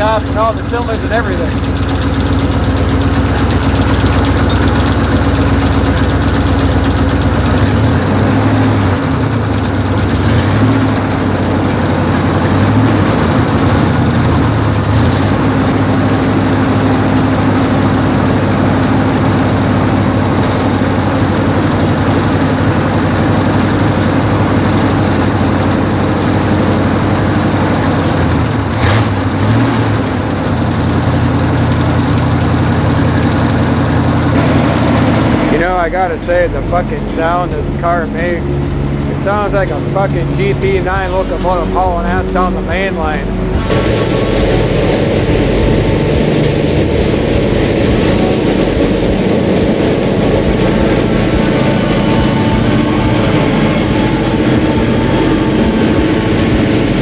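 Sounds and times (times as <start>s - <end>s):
heavy low engine running: 0.0s - 57.0s.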